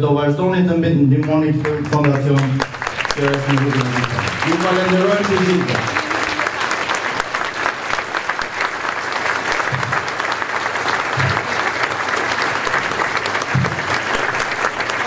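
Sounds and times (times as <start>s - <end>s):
large audience clapping: 1.1s - 15.0s.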